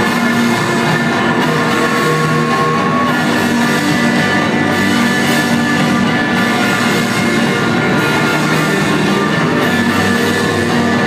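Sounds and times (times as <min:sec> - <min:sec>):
electric guitars ringing: 0:00.0 - 0:11.0
live rock band playing: 0:00.0 - 0:11.0.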